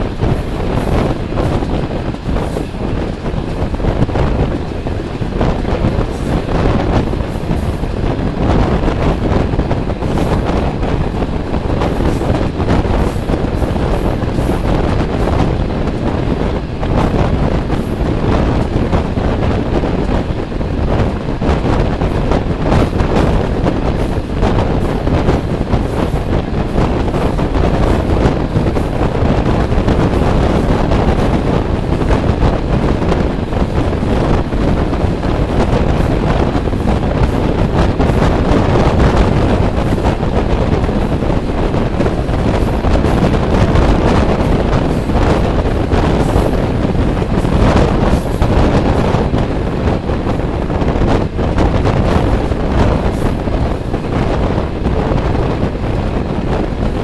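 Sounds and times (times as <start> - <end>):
train running on rails: 0.0 - 57.0
wind rushing over microphone: 0.0 - 57.0.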